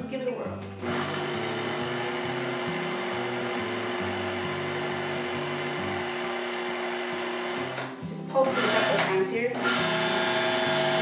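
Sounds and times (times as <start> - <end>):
food processor motor whirring: 0.8 - 11.0.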